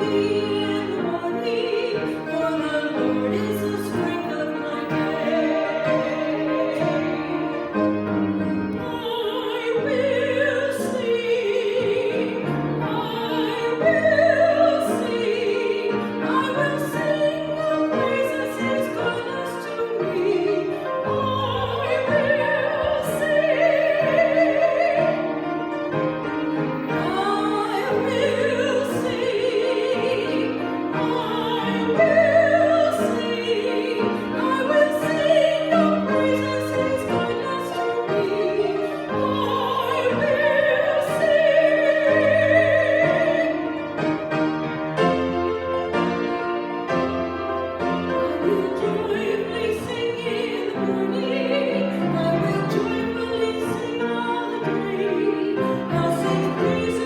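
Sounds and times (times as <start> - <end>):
instrumental accompaniment: 0.0 - 57.0
person singing classical style: 0.0 - 57.0.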